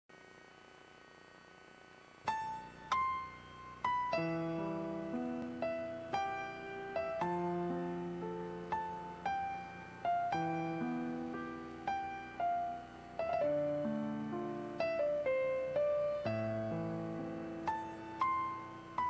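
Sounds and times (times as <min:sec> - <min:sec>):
slow piano music: 0:02.2 - 0:19.0.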